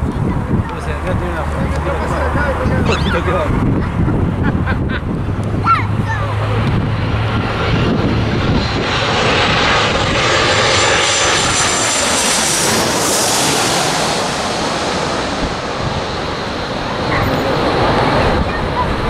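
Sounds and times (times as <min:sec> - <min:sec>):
jet plane roar with high whine: 0:00.0 - 0:19.0.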